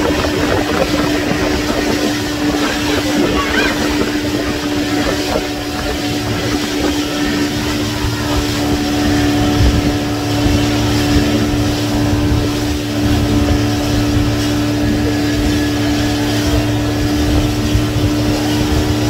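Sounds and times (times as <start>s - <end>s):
motorboat engine drone: 0.0s - 19.0s
water rushing along hull: 0.0s - 19.0s
wind buffeting microphone: 0.0s - 19.0s.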